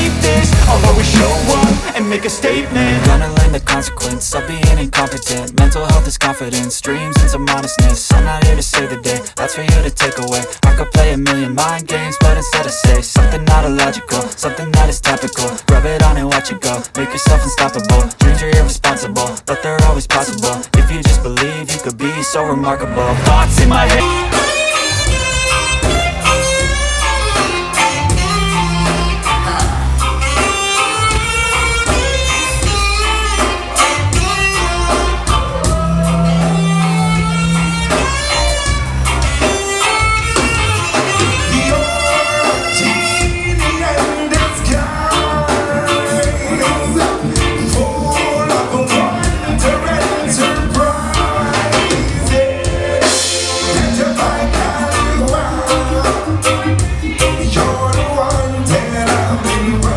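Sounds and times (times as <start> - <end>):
music with drums and bass: 0.0 - 21.9, 23.0 - 59.9.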